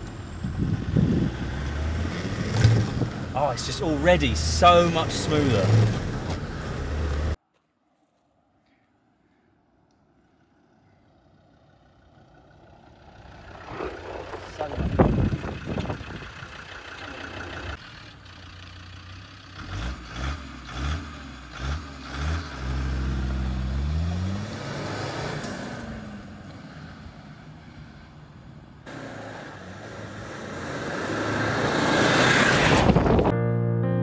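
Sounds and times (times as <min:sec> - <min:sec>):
diesel engine revving: 0:00.0 - 0:07.4, 0:11.4 - 0:28.0, 0:28.9 - 0:33.3.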